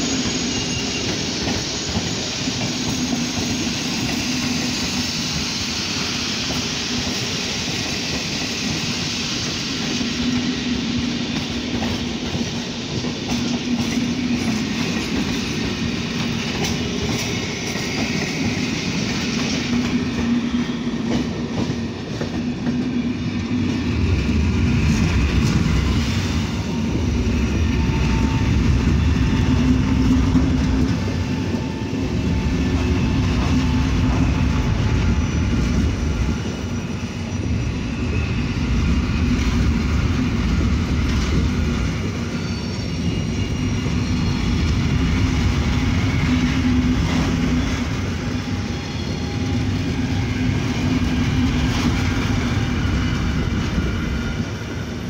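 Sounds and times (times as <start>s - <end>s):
heavy low train rumble: 0.0s - 55.0s
passenger trains rolling past: 0.0s - 55.0s.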